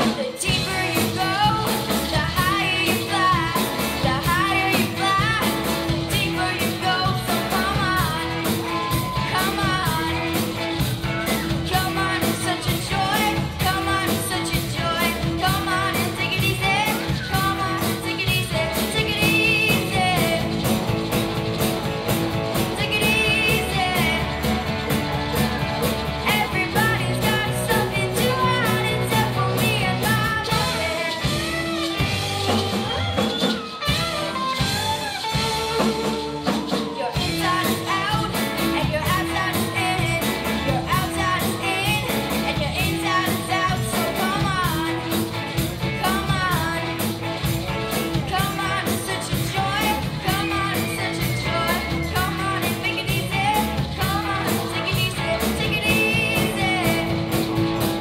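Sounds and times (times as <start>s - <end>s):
girl singing lead vocal: 0.0s - 20.8s, 22.6s - 24.6s, 26.2s - 32.6s, 36.1s - 47.1s, 48.0s - 57.5s
drum kit fast beat: 0.0s - 58.0s
electric guitars: 0.0s - 58.0s.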